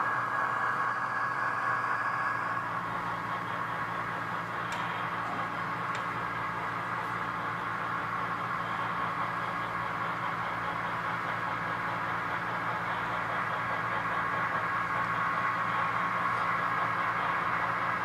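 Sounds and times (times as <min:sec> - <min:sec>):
model train hum and rumble: 0:00.0 - 0:18.0.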